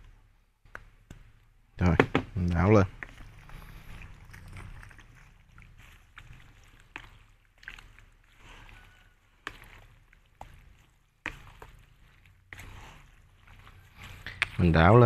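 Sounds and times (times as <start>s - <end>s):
wet squelching of meat: 2.4s - 15.0s.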